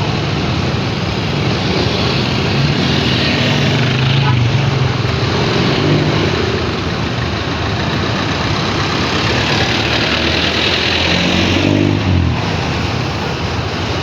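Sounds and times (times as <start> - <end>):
road and wind noise: 0.0 - 14.0
vehicle engine running: 0.0 - 14.0.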